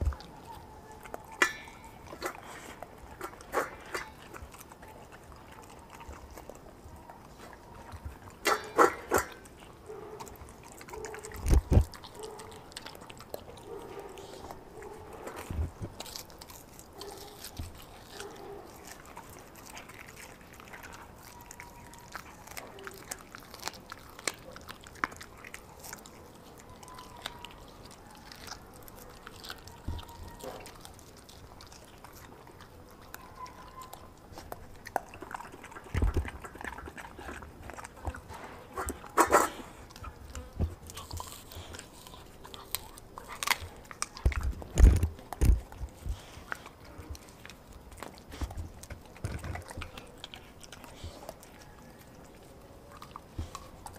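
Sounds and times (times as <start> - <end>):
dog chewing and tearing meat: 0.0 - 53.9.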